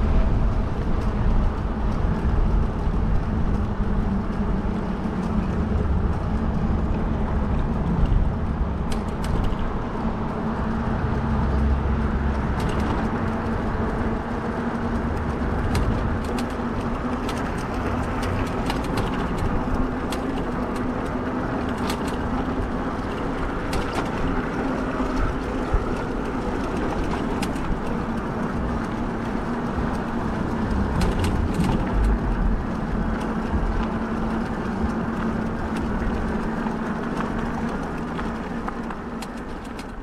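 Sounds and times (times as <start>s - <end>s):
steady motor hum: 0.0s - 40.0s
wind rumbling on microphone: 0.0s - 40.0s.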